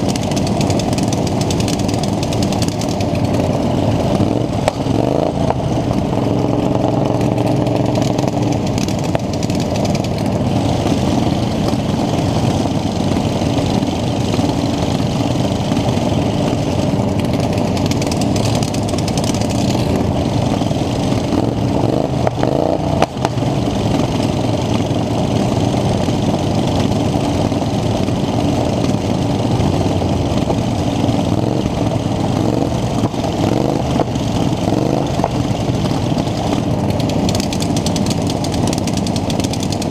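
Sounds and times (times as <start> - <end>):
lawn mower engine running hard: 0.0 - 39.9.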